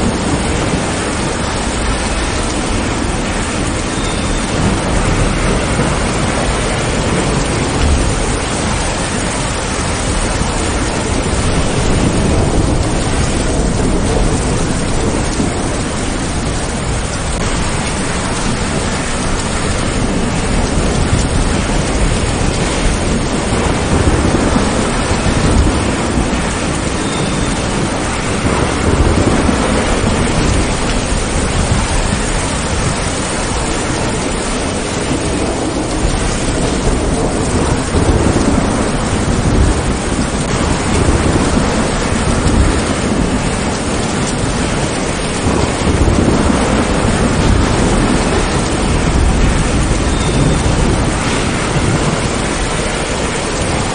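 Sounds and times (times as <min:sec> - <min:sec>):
heavy rain: 0:00.0 - 0:53.9
thunder rumbling: 0:00.0 - 0:53.9.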